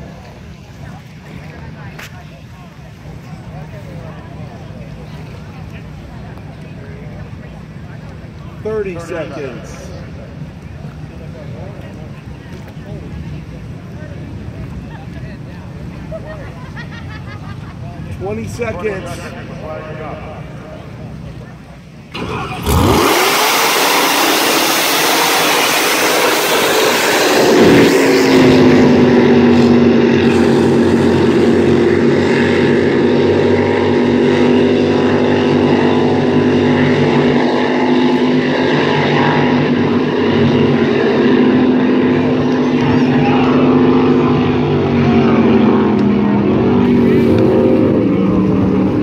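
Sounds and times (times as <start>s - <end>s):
speedboat engines at full throttle: 0.0s - 49.0s.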